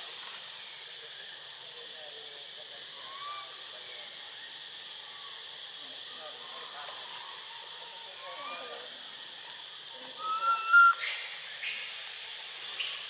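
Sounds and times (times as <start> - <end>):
faint chirps: 0.0 - 13.0
steady hiss: 0.0 - 13.0.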